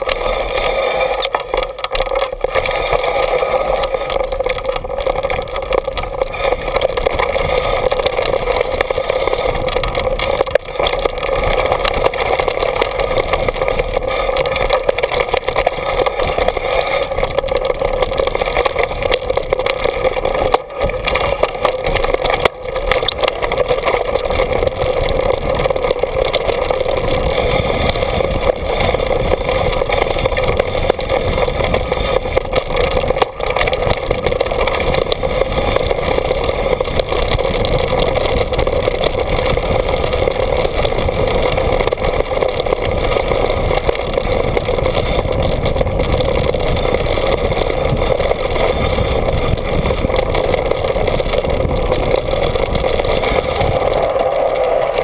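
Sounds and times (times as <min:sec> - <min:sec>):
bike rattling: 0:00.0 - 0:55.0
mountain bike tyre roar on gravel: 0:00.0 - 0:55.0.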